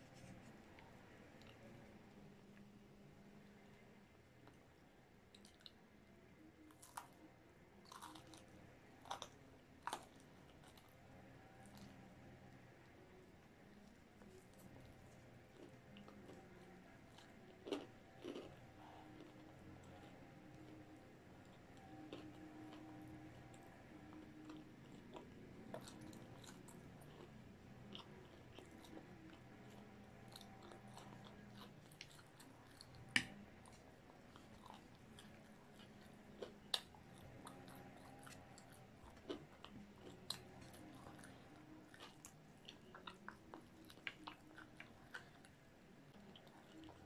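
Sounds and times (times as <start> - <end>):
chewing fried chicken: 4.4 - 47.0.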